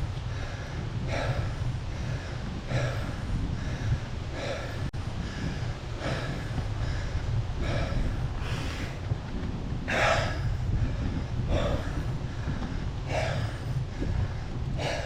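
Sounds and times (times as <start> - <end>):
person breathing hard: 0.0 - 9.2, 9.9 - 15.0
low rumble: 0.0 - 15.0.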